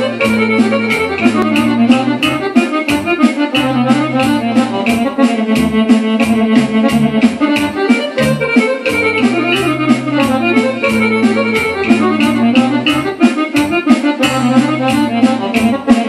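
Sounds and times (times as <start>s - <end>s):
accordion-voiced keyboard melody: 0.0s - 16.0s
keyboard bass: 0.0s - 16.0s
rapid drum beat: 0.0s - 16.0s.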